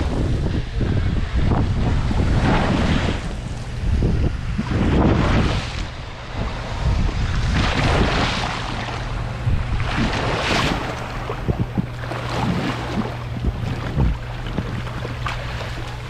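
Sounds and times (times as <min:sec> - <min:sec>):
wind buffeting microphone: 0:00.0 - 0:16.0
water rushing and splashing: 0:01.0 - 0:16.0.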